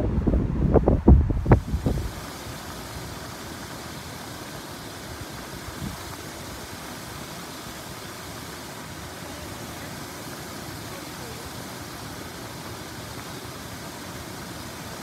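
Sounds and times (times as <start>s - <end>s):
fountain water splashing: 0.8s - 15.0s.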